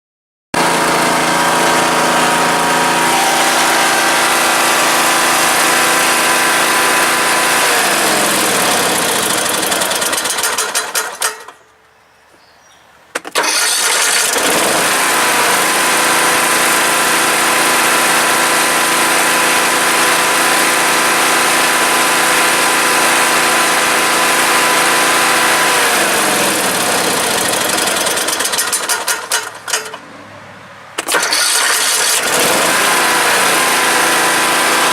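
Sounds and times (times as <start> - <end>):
engine rattling winding down: 0.6 - 11.6, 13.4 - 30.4, 31.0 - 34.9
mower engine running: 0.6 - 11.6, 13.3 - 30.1, 31.0 - 34.9.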